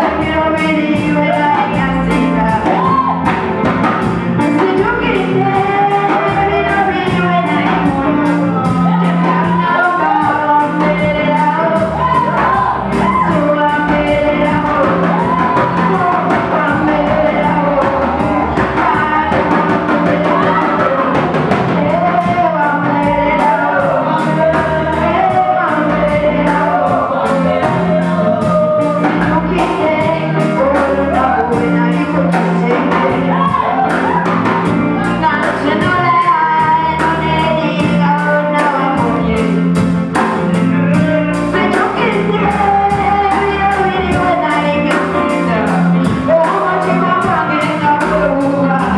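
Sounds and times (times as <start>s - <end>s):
band playing: 0.0s - 48.9s
bass line: 0.0s - 48.9s
drum beat: 0.0s - 48.9s
voices singing: 0.0s - 48.9s.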